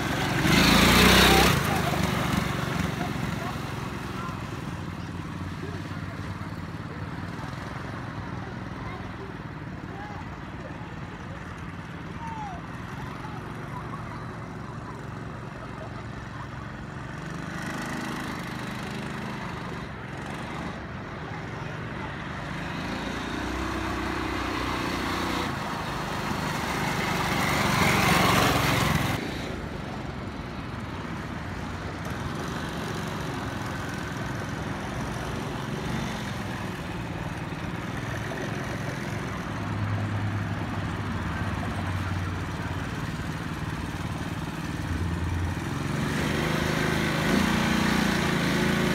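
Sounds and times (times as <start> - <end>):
atv engine revving: 0.0 - 12.1, 12.7 - 48.9.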